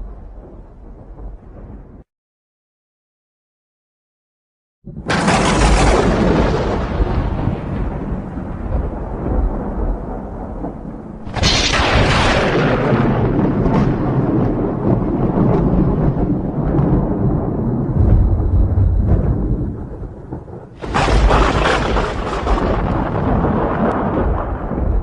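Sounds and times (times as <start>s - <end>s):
rolling thunder rumble: 0.0s - 2.1s, 4.9s - 25.0s
sharp thunderclap: 0.0s - 2.1s, 4.9s - 25.0s.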